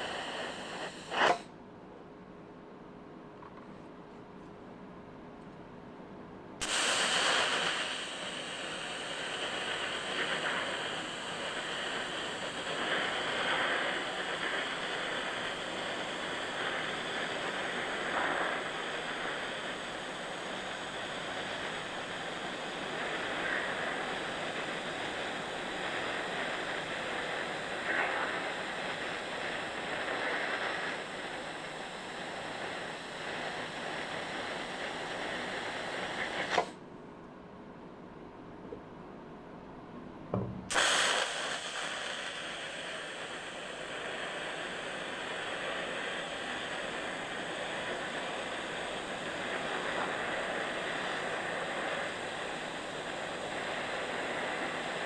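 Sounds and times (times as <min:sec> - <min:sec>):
welding arc hissing sizzle: 0:00.0 - 0:01.5, 0:06.6 - 0:36.8, 0:40.6 - 0:55.0.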